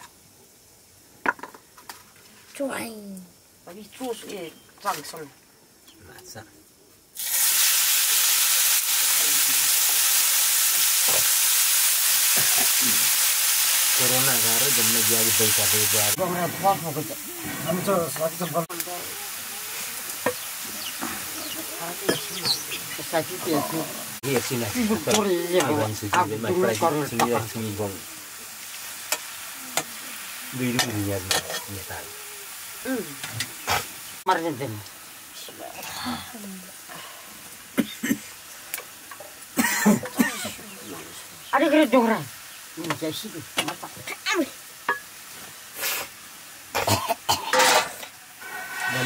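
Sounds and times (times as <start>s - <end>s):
mushrooms sizzling in hot oil: 0.0s - 5.9s, 6.6s - 49.0s.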